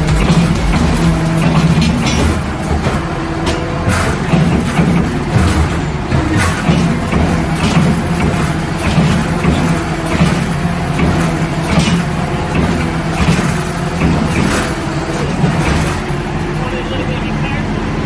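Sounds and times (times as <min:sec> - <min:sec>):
knocks and rattles: 0:00.0 - 0:16.7
road noise: 0:00.0 - 0:18.0
truck engine running: 0:00.0 - 0:18.0.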